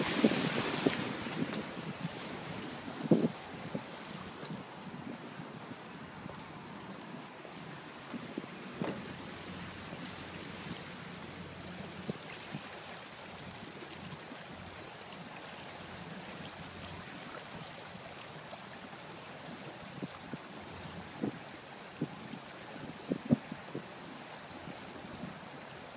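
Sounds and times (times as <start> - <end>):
water washing along steel hull: 0.0 - 25.9.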